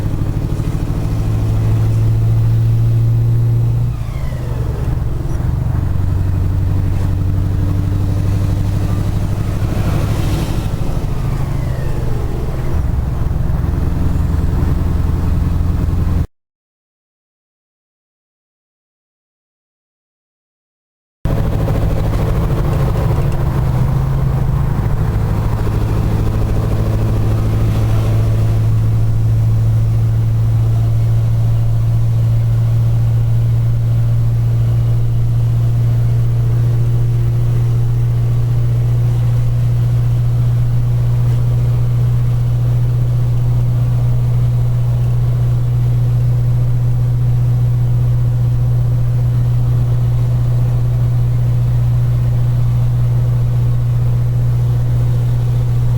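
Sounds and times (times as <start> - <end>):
diesel engine droning: 0.0 - 16.3, 21.3 - 55.9.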